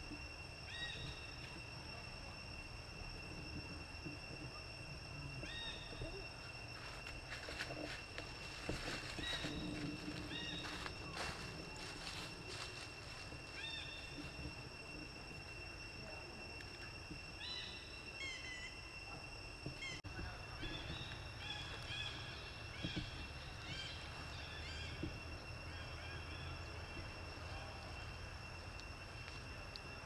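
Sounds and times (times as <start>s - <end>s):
high-pitched whine: 0.0s - 30.0s.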